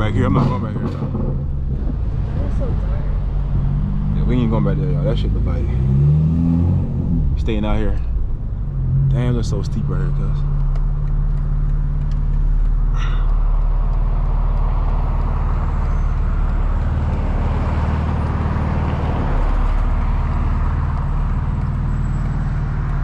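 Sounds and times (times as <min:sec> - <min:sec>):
car exhaust at low revs: 0:00.0 - 0:23.0.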